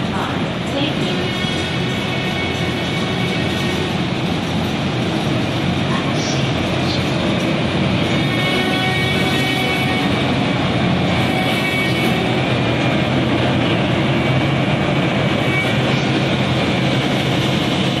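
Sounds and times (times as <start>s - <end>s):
electric locomotive roaring past: 0.0s - 18.0s.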